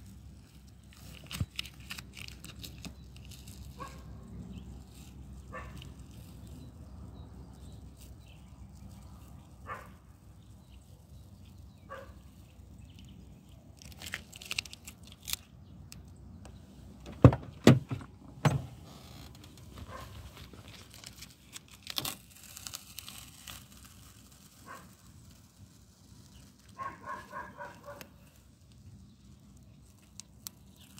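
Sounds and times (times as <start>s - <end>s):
masking tape peeling: 0.0s - 16.3s, 18.5s - 30.9s.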